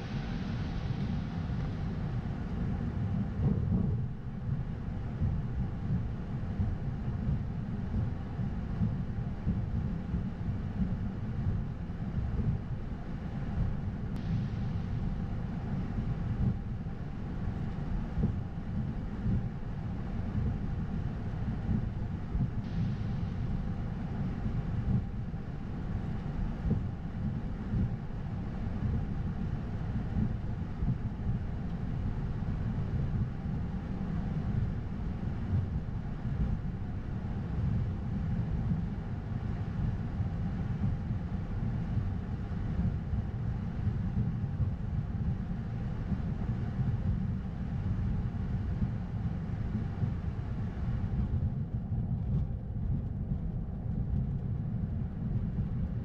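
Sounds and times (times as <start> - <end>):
aircraft engines idling rumble: 0.0 - 56.0
faint steady hum: 0.0 - 56.0.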